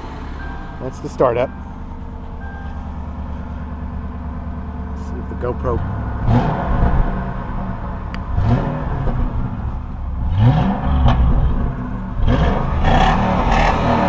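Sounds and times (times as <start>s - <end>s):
car engine revving: 0.0s - 14.0s
exhaust rumble: 0.0s - 14.0s.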